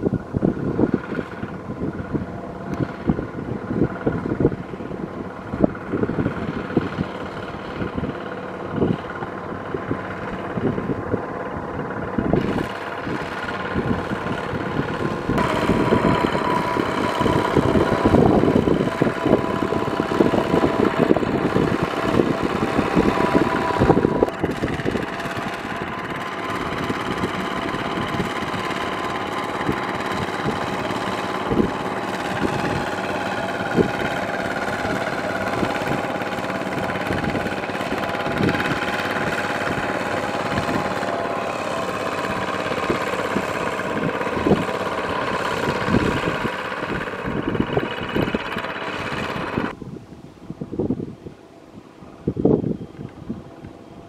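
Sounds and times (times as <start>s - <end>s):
diesel engine running: 0.0s - 49.8s
wheels churning through mud: 0.0s - 49.8s.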